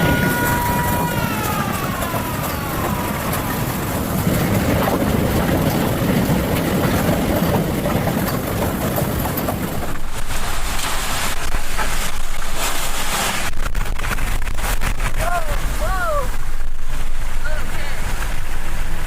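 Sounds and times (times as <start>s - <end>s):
hail or rain hammering down: 0.0s - 19.0s
wind: 0.0s - 19.0s.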